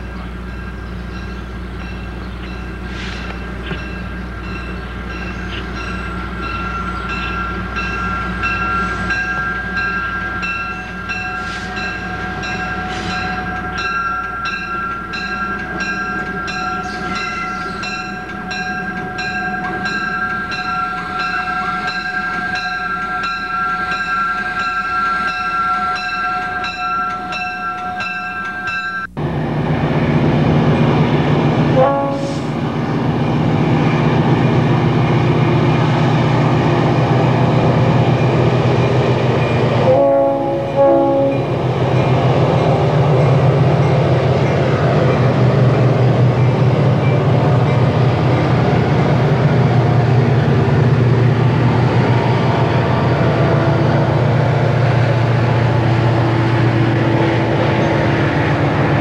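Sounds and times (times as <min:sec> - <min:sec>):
freight train passing: 0:00.0 - 0:59.0
locomotive bell ringing: 0:00.0 - 0:59.0.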